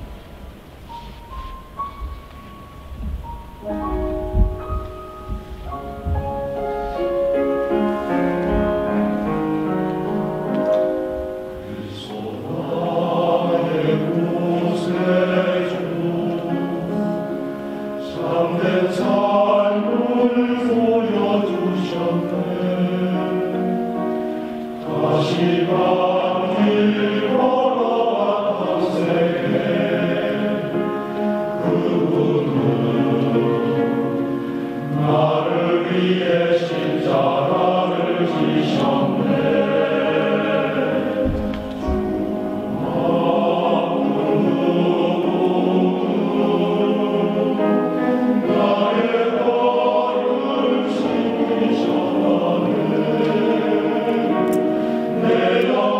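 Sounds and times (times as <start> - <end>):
choir singing: 0.0 - 55.9.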